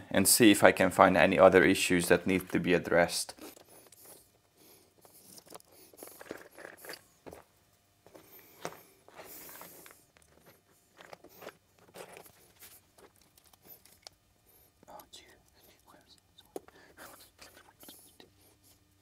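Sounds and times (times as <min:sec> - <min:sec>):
wires rustling: 0:02.0 - 0:18.8.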